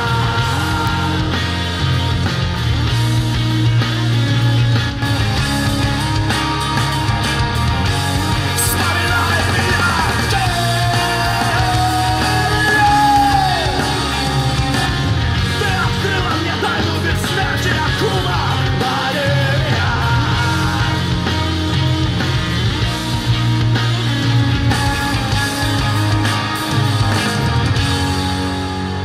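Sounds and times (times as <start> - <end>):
hard rock song over loudspeakers: 0.0 - 29.0.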